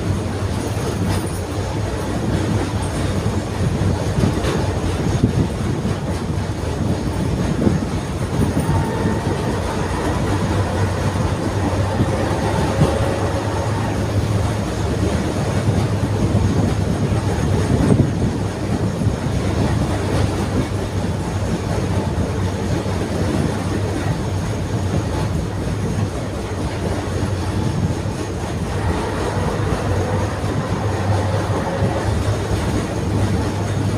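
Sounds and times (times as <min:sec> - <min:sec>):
tram wheels rumbling on rails: 0:00.0 - 0:33.9.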